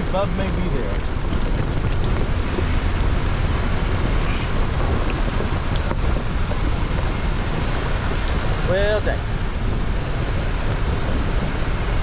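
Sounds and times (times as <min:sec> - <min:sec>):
vehicle rumbling on dirt road: 0:00.0 - 0:12.0
wind noise on microphone: 0:00.0 - 0:12.0.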